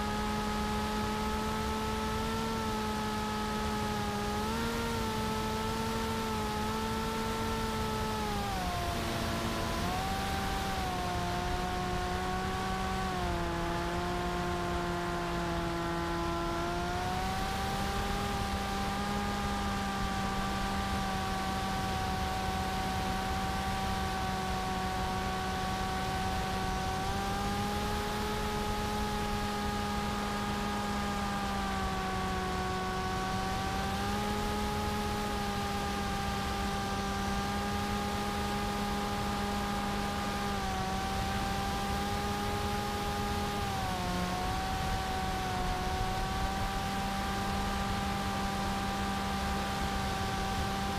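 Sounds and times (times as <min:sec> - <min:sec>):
electric motor whine: 0:00.0 - 0:50.9.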